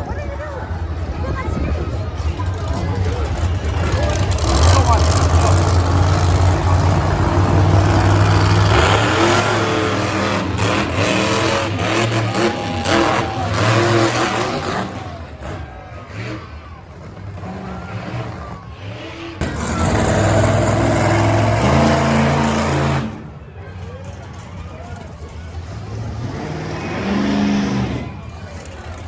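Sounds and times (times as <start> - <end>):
truck engines revving: 0.0 - 29.0.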